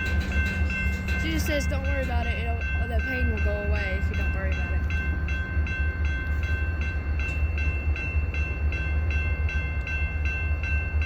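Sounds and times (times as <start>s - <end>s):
railroad crossing bell dinging: 0.0s - 11.0s
train rumbling: 0.0s - 11.0s.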